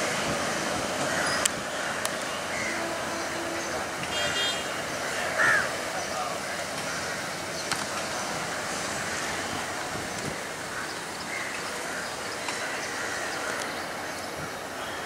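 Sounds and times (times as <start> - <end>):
distant diesel locomotive engine: 0.0 - 15.0.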